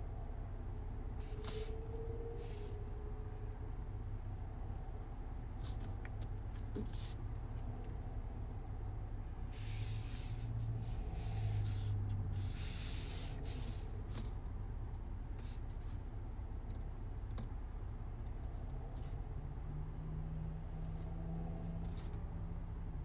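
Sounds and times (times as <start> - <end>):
car engine idling: 0.0 - 19.7.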